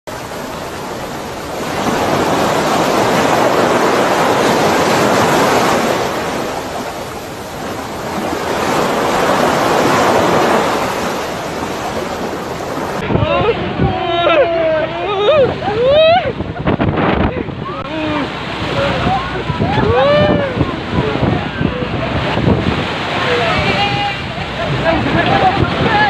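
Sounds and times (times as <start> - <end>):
wind: 0.0 - 26.0
rough sea rushing: 0.1 - 26.0
waves breaking around a boat: 0.1 - 26.0.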